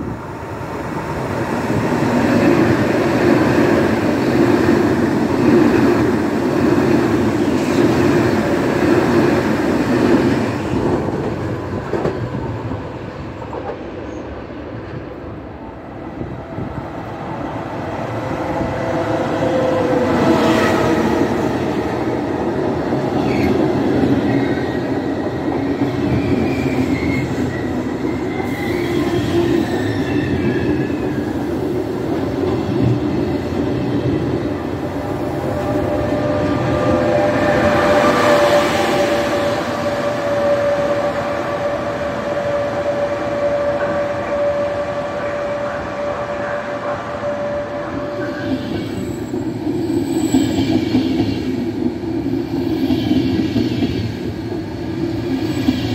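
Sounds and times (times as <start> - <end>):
rumble of train wheels on rail: 0.0 - 55.9.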